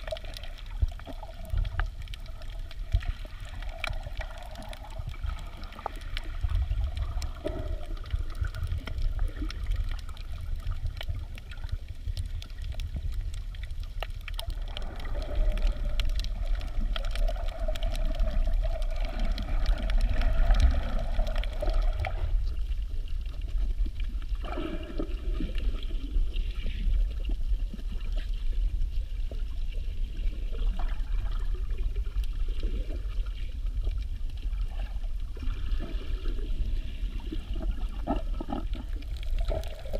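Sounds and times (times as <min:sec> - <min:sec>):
faint crackling clicks: 0:00.0 - 0:39.9
muffled underwater rumble: 0:00.0 - 0:39.9.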